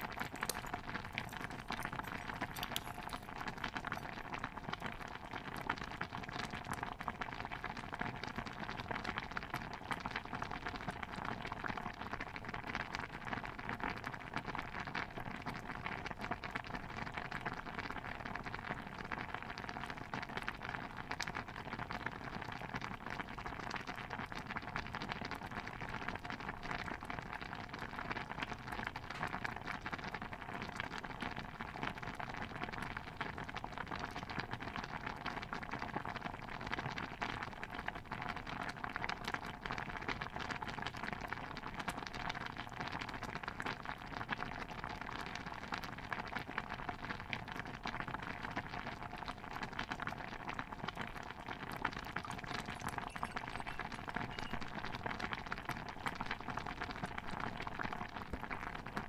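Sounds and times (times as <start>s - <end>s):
stew bubbling in a cauldron: 0.0s - 59.0s.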